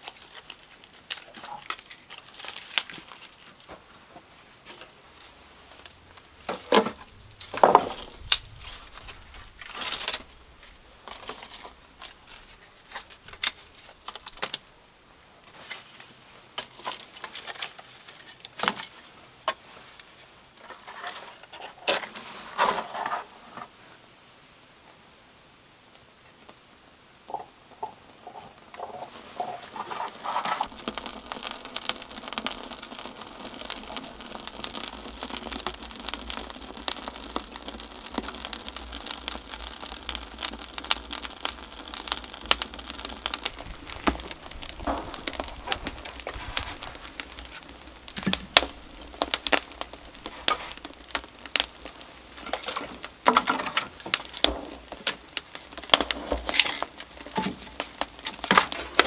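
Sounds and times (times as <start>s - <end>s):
wood fire crackling and popping: 0.0s - 23.4s, 25.9s - 59.0s.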